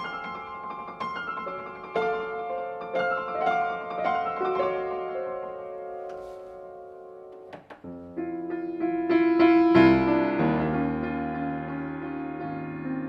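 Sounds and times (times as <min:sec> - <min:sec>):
solo piano playing: 0:00.0 - 0:13.0.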